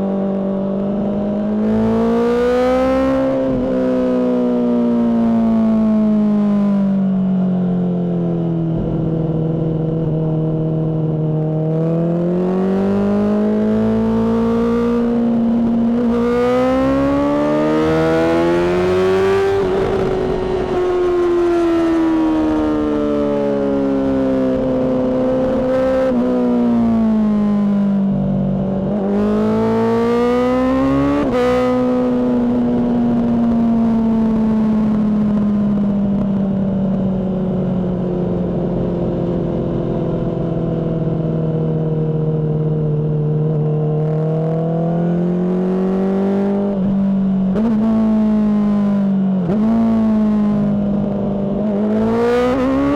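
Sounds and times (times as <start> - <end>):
motorcycle engine revving: 0.0 - 6.8, 8.3 - 52.9.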